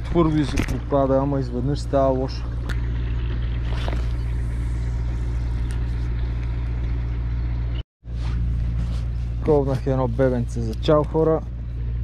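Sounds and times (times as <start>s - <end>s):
constant hum: 0.0s - 12.0s
low rumble: 0.0s - 12.0s.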